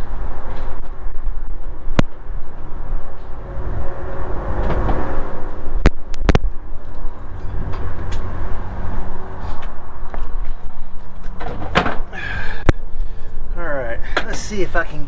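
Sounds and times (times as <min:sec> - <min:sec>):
low mechanical rumble: 0:00.0 - 0:01.0, 0:01.8 - 0:14.0.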